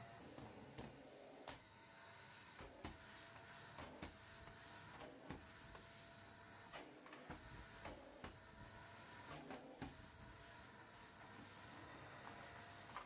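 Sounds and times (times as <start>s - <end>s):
vacuum cleaner humming: 0.0s - 13.0s.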